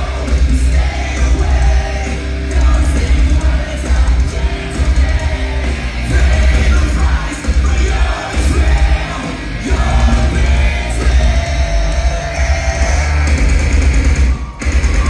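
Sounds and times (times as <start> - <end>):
yelled vocals: 0.0 - 13.8
live heavy metal band playing: 0.0 - 15.0.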